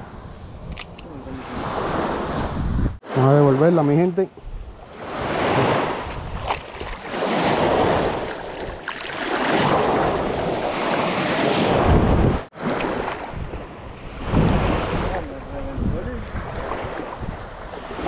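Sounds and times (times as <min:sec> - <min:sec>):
wind buffeting microphone: 0:00.0 - 0:03.0, 0:04.3 - 0:18.0
surf washing in: 0:01.2 - 0:18.0.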